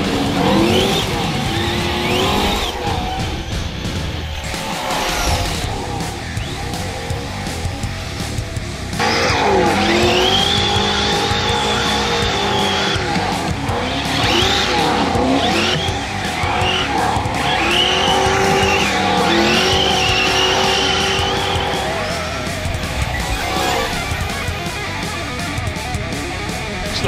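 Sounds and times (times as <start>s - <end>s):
electric motor whining: 0.0s - 26.9s
rock music: 0.0s - 27.0s.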